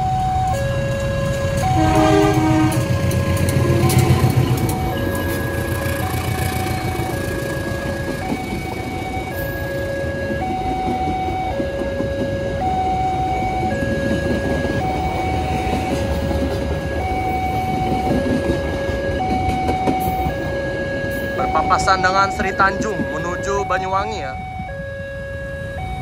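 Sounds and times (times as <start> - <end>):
train carriages rumbling past: 0.0 - 26.0
two-tone crossing siren: 0.0 - 26.0.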